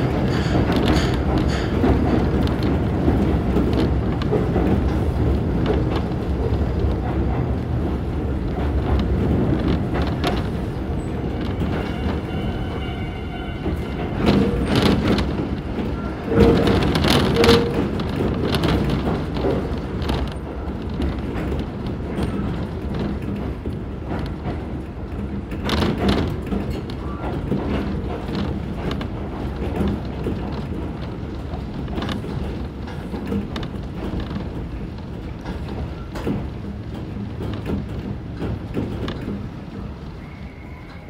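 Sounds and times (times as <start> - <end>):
train running rumble: 0.0 - 41.0
wheel and carriage clicks: 0.0 - 41.0.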